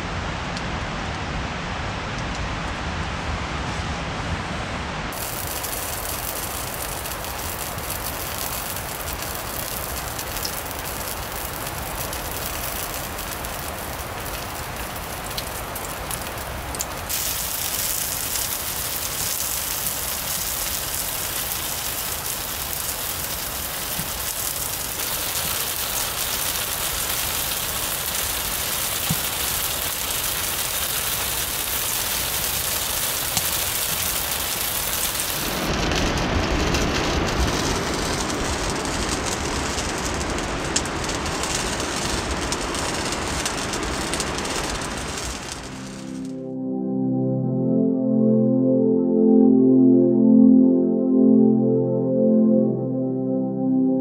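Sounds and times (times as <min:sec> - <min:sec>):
steady rain falling: 0:00.0 - 0:46.6.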